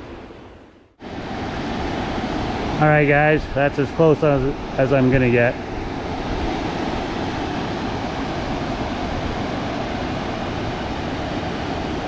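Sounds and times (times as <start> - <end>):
river water roaring over weir: 0.0 - 12.0.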